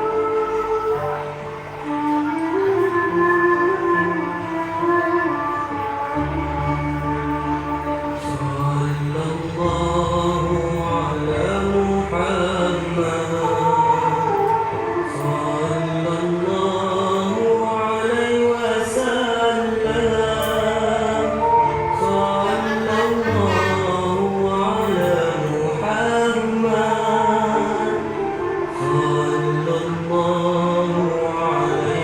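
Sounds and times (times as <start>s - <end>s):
chanted singing: 0.0s - 2.8s, 4.2s - 32.0s.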